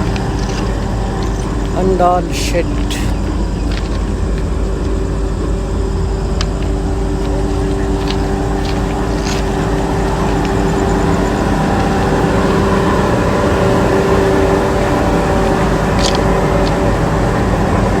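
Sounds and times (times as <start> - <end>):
diesel locomotive engine rumbling: 0.0 - 18.0
loud steady hum: 0.0 - 18.0.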